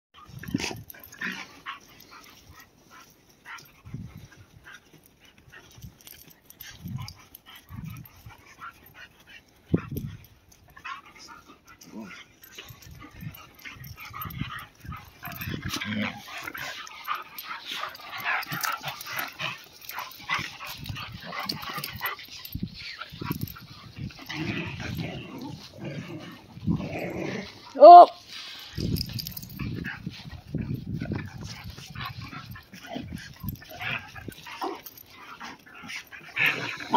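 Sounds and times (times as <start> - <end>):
dog vocal sounds: 0.2 - 4.8, 5.8 - 36.9
dogs scuffling: 0.2 - 36.9.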